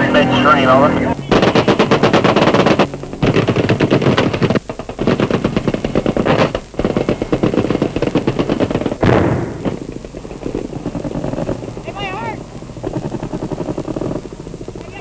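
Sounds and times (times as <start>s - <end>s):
automatic machine-gun fire: 0.0s - 15.0s
heavy blast: 0.0s - 15.0s.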